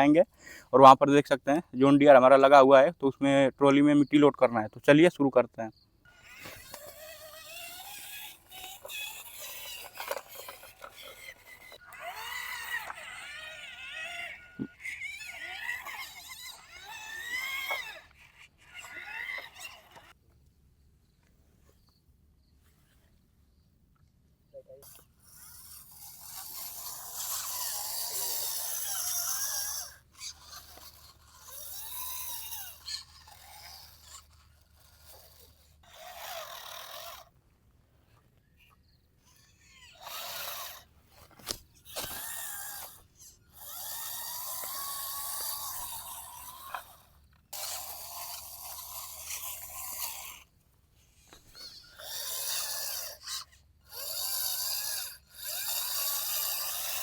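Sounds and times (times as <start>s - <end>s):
small electric motors whining: 5.7s - 20.5s, 24.6s - 57.0s.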